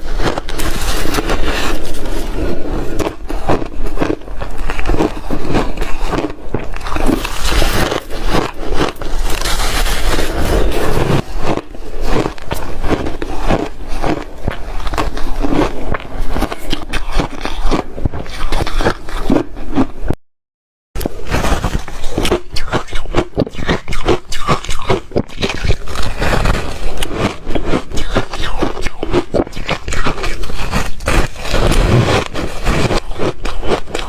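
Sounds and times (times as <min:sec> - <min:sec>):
ice being chewed: 0:00.0 - 0:20.1, 0:21.0 - 0:34.0.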